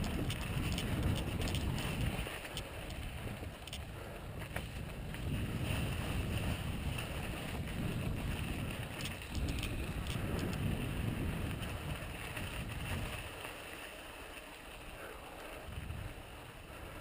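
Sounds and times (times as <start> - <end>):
bike clicks and rattles: 0.0 - 16.1
bike tyre and wind rumble: 0.0 - 17.0.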